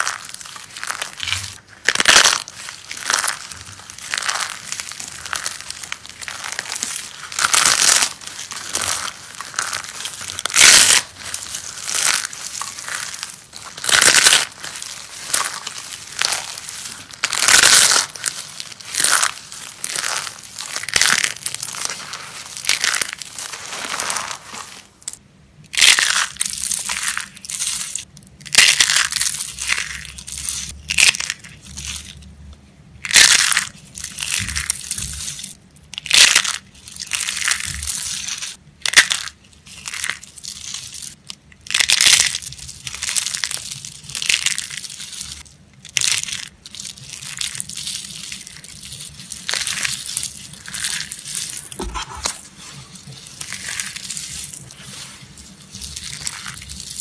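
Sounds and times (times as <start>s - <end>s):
soap crunching and crackling: 0.0s - 57.0s.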